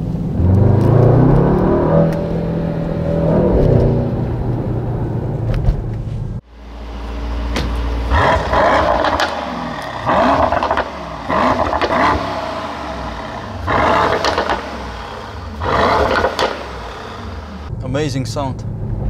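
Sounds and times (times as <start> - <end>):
car engine idling and revving: 0.0 - 17.8.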